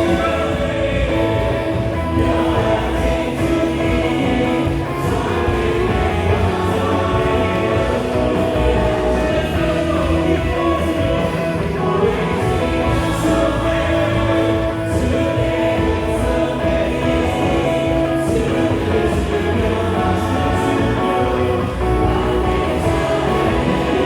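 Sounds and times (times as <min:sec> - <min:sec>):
bass guitar: 0:00.0 - 0:24.0
drums: 0:00.0 - 0:24.0
electric guitar: 0:00.0 - 0:24.0
keyboard: 0:00.0 - 0:24.0
voices singing: 0:00.0 - 0:24.0.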